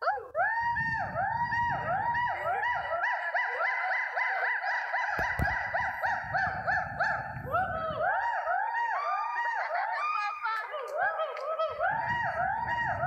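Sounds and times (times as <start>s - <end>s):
gibbon whooping call: 0.0s - 13.0s.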